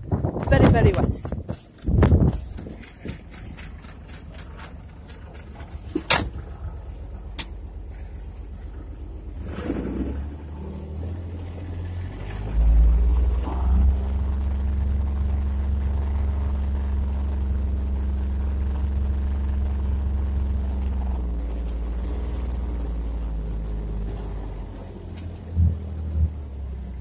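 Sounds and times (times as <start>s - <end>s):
vehicle engine starting and running: 0.0s - 27.0s.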